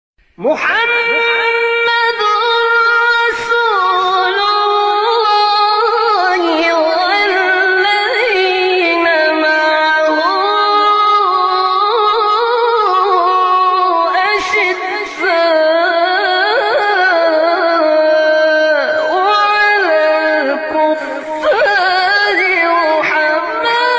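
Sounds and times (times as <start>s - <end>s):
person chanting unaccompanied: 0.4s - 23.9s.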